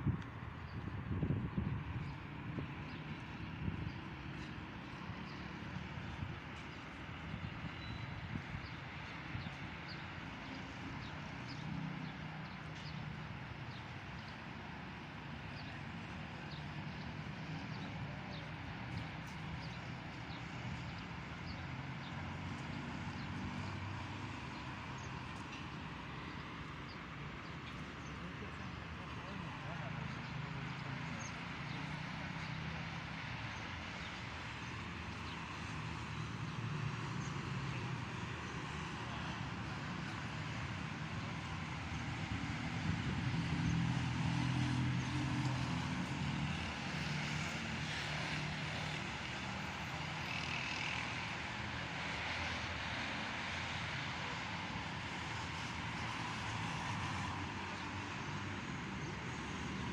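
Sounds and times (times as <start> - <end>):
distant traffic hum: 0.0 - 59.9.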